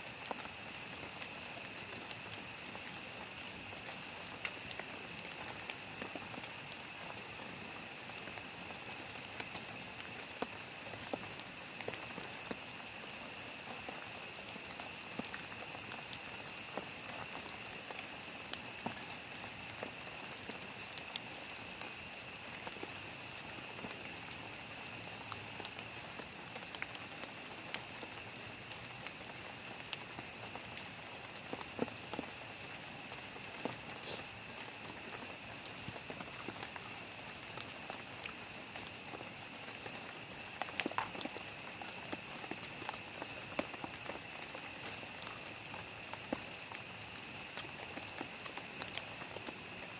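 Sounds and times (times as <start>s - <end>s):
rain on a plastic tarp: 0.0s - 49.9s.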